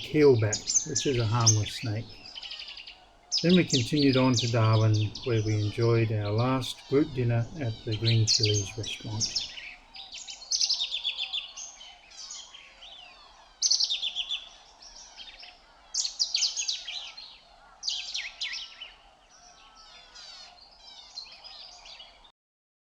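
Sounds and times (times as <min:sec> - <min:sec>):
faint bird chirps: 0:00.0 - 0:22.3.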